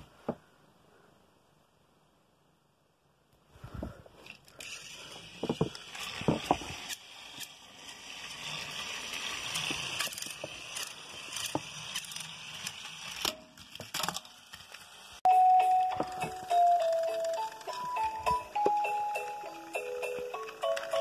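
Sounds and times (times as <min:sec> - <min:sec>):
toy train motors whirring: 0:04.2 - 0:21.0.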